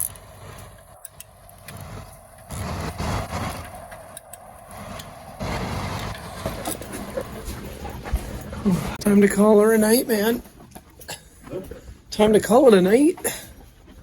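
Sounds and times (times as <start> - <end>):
highway traffic rumble: 0.0 - 14.0.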